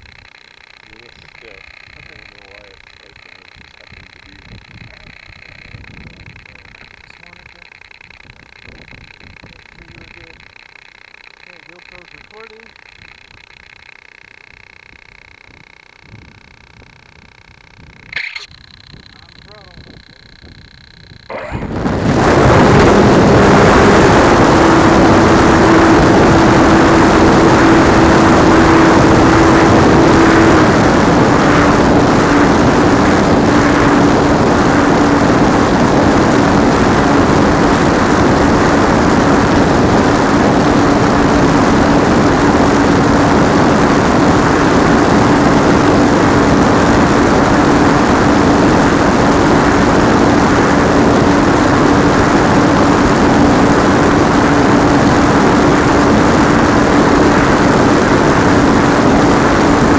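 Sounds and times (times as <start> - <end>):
electric motor and propeller drone: 0.0 - 59.9
wind rushing over microphone: 0.9 - 10.6, 14.8 - 59.9.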